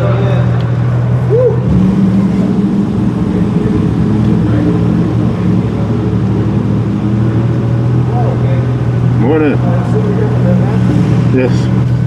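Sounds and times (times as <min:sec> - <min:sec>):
sports car engine running: 0:00.0 - 0:12.0.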